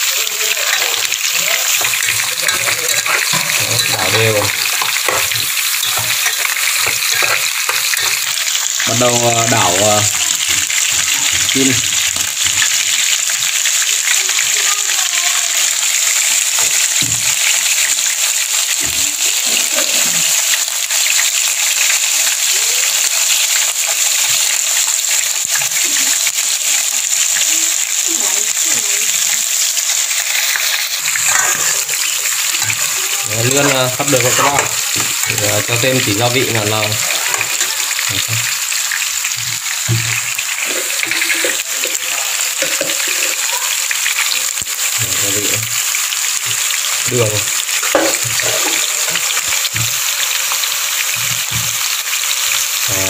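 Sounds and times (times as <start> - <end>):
food sizzling in frying pan: 0.0 - 53.0.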